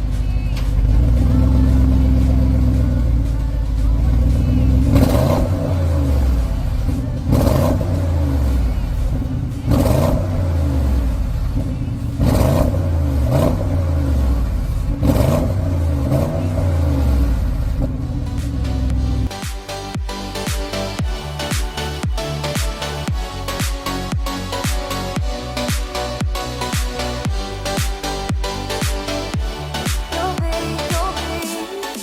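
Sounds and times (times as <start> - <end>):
car engine revving: 0.0 - 31.4.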